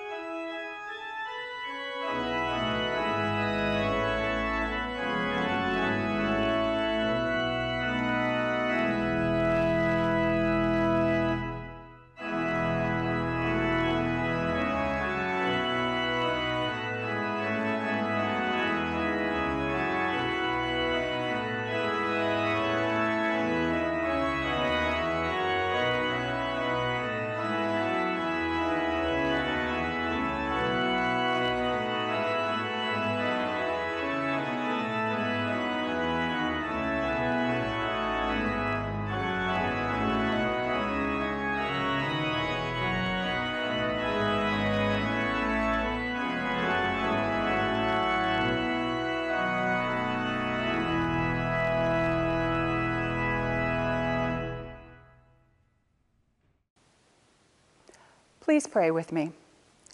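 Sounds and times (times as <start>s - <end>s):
organ playing held chords: 0.0s - 55.4s.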